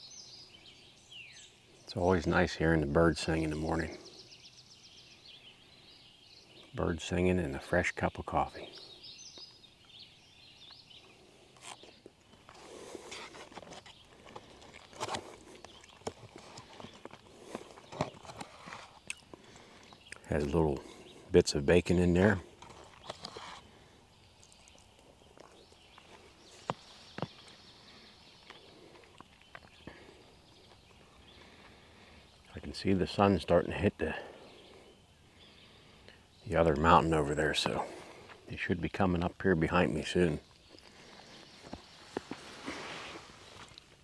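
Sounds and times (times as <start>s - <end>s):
faint songbirds singing: 0.0s - 44.0s.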